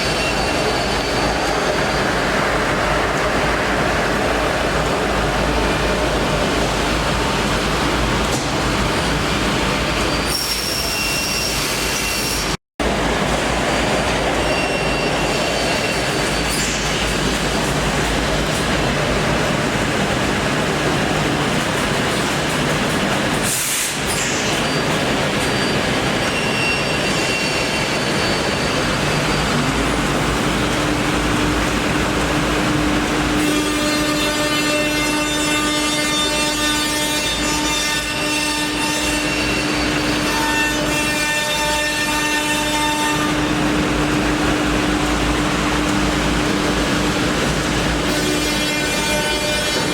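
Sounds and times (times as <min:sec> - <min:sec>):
machining centre running: 0:00.0 - 0:49.9.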